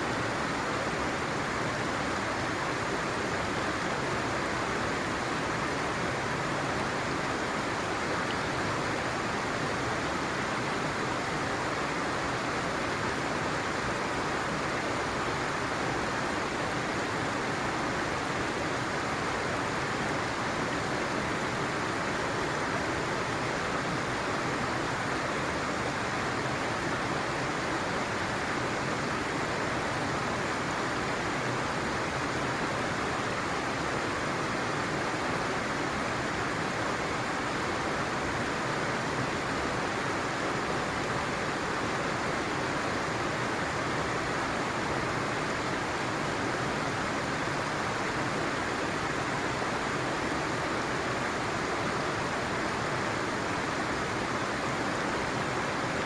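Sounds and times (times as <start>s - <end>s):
stream running over stones: 0.0s - 56.0s.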